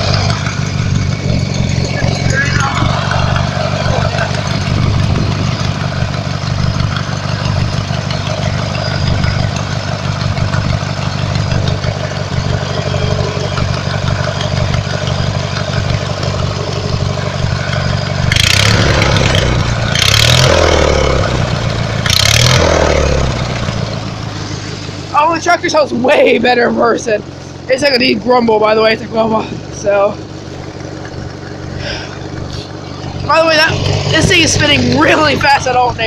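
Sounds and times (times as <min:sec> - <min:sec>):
lawnmower engine running: 0:00.0 - 0:36.0.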